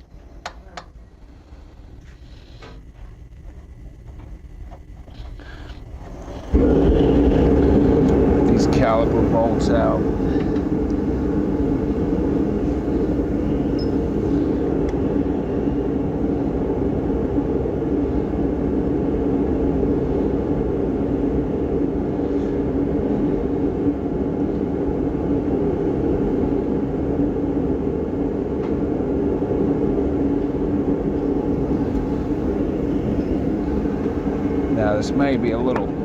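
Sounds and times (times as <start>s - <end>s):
low machinery drone: 0.0s - 36.0s.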